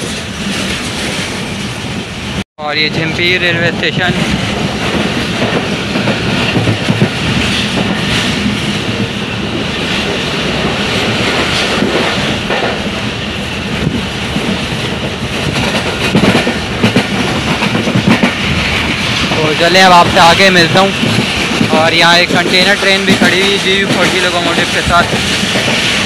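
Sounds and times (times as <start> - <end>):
clickety-clack over rail joints: 0.0 - 1.8, 2.8 - 26.0
train wheels rumbling on track: 0.0 - 26.0.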